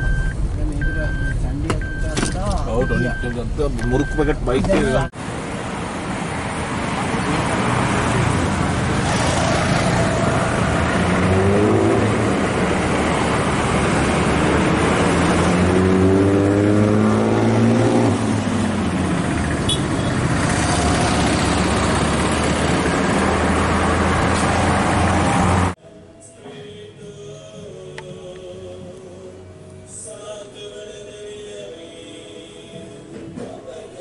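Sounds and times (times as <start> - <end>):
road traffic passing: 0.0 - 34.0.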